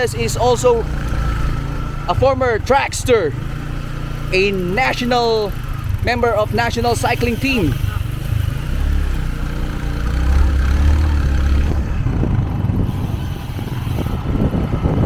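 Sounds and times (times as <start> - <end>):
road noise: 0.0 - 15.0
vehicle engine low rumble: 0.0 - 15.0.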